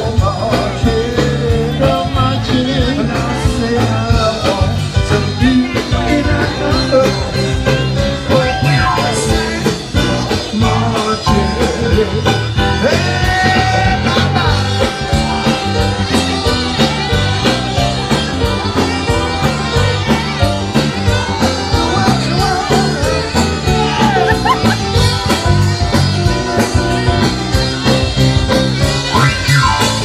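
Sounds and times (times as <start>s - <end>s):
person singing: 0.0s - 30.0s
upbeat music with steady beat: 0.1s - 30.0s.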